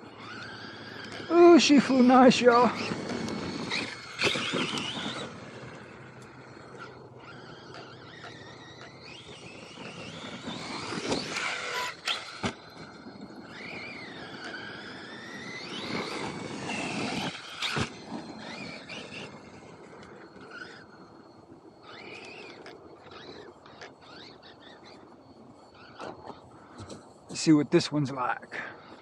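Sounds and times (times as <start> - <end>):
toy truck motor whining: 0.0 - 27.4, 28.3 - 29.0
tyres on dirt: 0.0 - 29.0.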